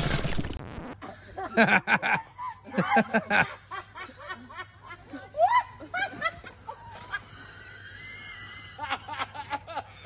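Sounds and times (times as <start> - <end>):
women laughing: 1.0 - 10.0.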